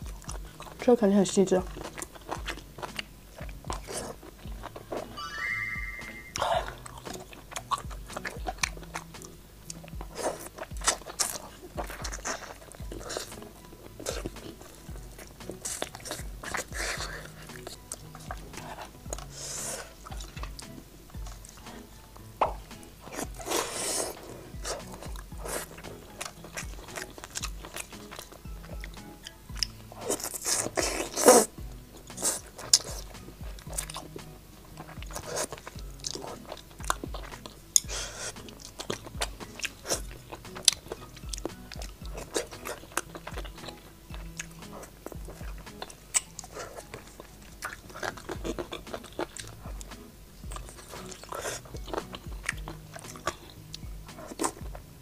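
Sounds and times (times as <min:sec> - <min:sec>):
crunching cartilage: 0:00.0 - 0:05.2, 0:06.3 - 0:55.0
biting and chewing food: 0:00.0 - 0:55.0
wet mouth sounds: 0:00.0 - 0:55.0.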